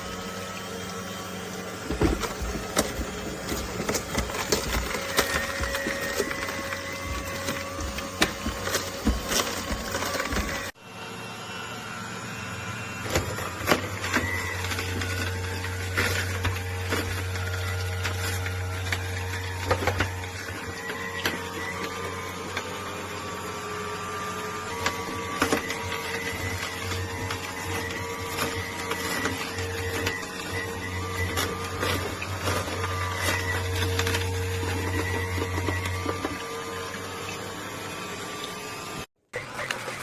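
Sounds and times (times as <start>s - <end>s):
juicer motor hum: 0.0s - 40.0s.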